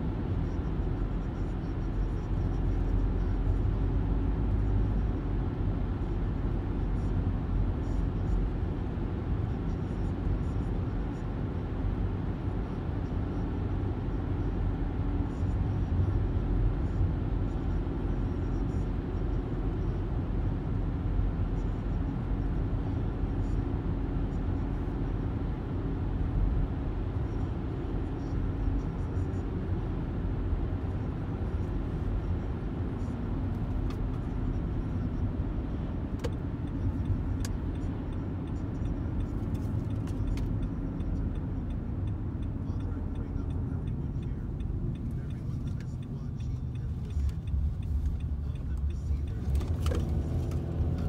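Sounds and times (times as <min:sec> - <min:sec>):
car interior road rumble: 0:00.0 - 0:51.0.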